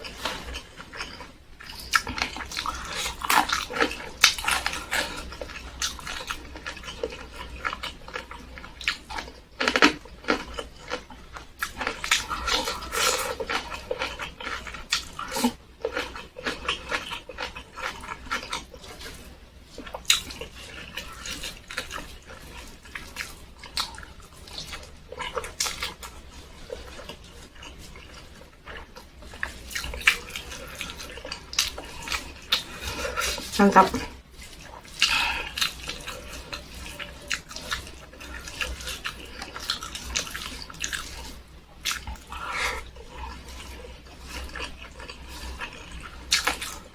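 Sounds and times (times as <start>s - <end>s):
person chewing and lip-smacking: 0.0s - 46.9s.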